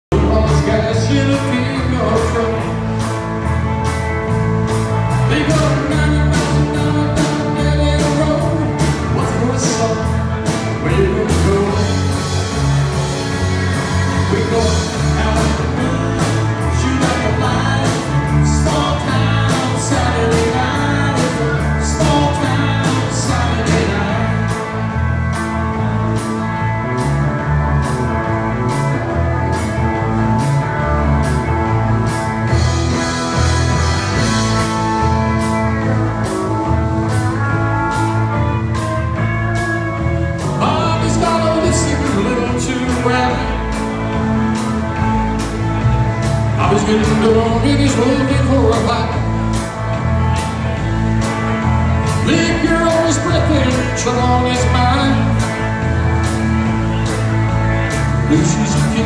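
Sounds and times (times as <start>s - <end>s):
country band playing: 0.0s - 59.0s.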